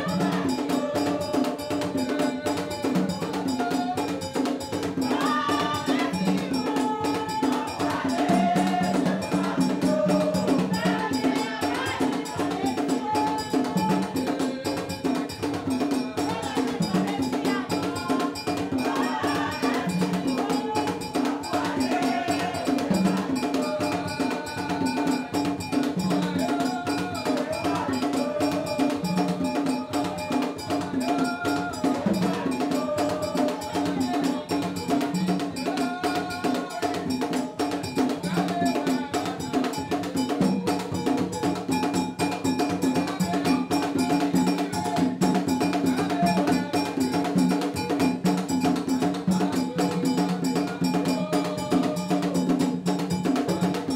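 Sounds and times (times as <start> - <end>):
hand drums: 0.0 - 53.9
voices singing: 0.0 - 53.9.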